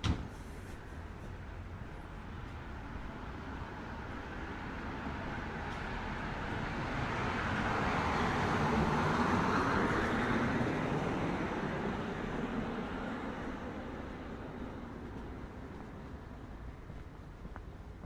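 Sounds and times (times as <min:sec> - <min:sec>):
vehicle passing on street: 0:00.7 - 0:18.0.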